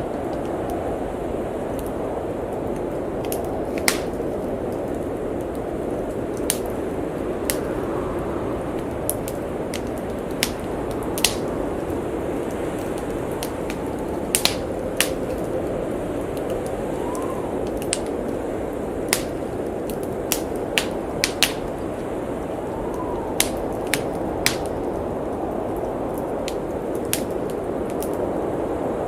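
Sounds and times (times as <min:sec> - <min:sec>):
howling blizzard wind: 0:00.0 - 0:29.0
wood fire crackling and popping: 0:00.0 - 0:29.0.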